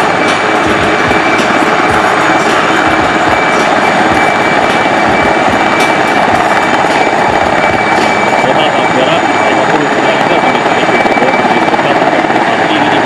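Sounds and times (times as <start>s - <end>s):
helicopter rotor thump: 0.0s - 13.0s
high turbine whine: 0.0s - 13.0s.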